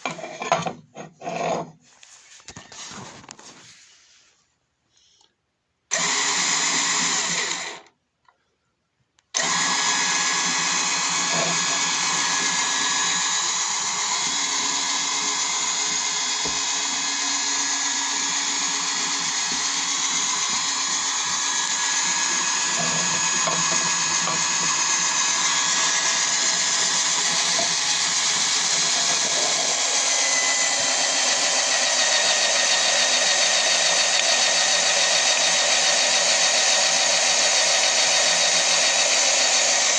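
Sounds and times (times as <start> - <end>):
drill press motor whining: 5.9 - 7.9, 9.4 - 39.9.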